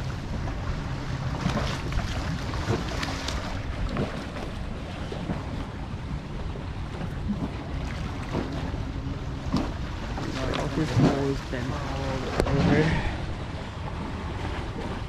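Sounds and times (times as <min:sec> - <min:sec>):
water washing below pier: 0:00.0 - 0:15.0
wind rumbling on microphone: 0:00.0 - 0:15.0.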